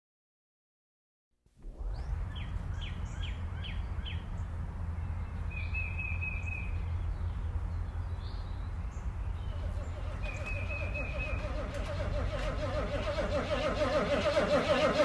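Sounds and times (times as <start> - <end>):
low outdoor rumble: 1.6 - 15.0
birds singing: 1.9 - 15.0.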